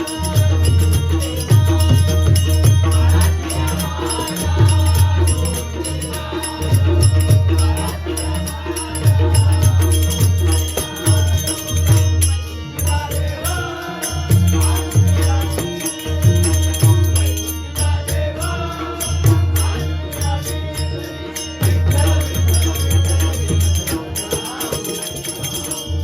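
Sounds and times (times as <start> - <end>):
voices chanting together: 0.0 - 26.0.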